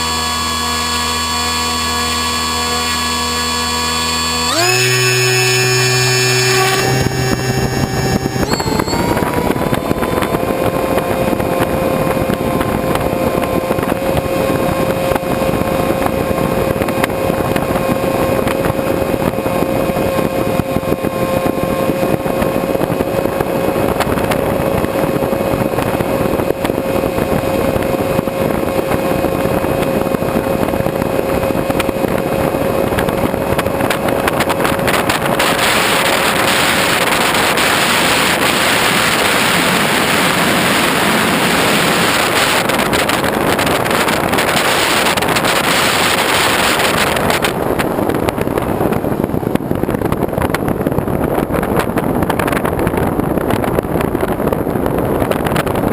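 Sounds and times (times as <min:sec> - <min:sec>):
vehicle engine running: 0:00.0 - 0:55.9
wind rushing: 0:05.9 - 0:55.9.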